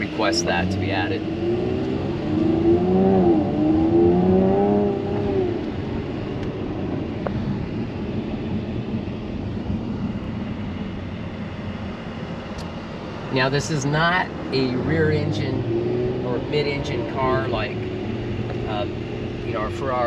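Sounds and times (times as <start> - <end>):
car engine accelerating: 0.0 - 20.0
road and tyre noise: 0.0 - 20.0.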